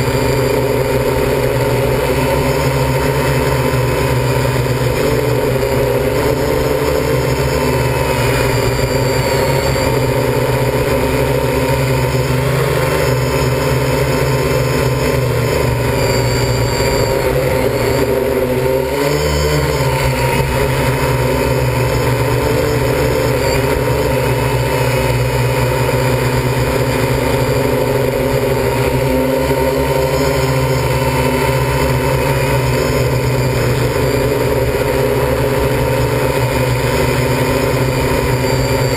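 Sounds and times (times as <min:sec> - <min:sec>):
drone motors and propellers humming: 0:00.0 - 0:38.9.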